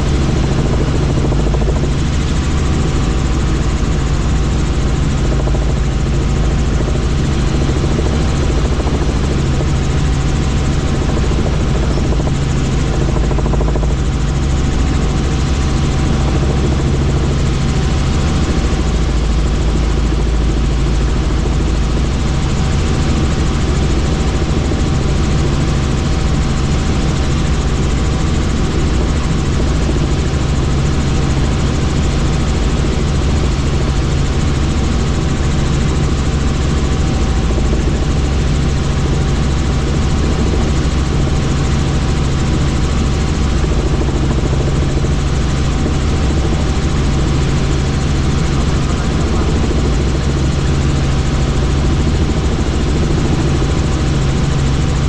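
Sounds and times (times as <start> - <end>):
constant whine: 0.0 - 55.0
helicopter rotor and engine drone: 0.0 - 55.0.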